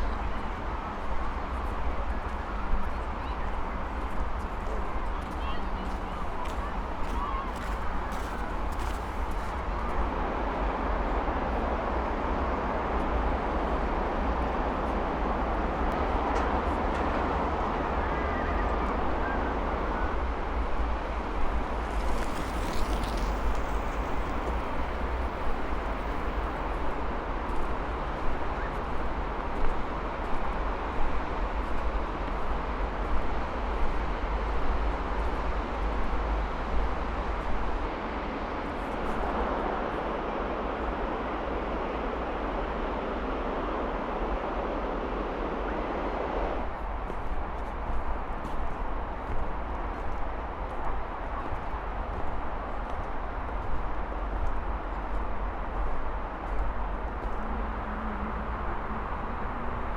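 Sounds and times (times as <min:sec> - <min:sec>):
traffic roar: 0:00.0 - 0:59.9.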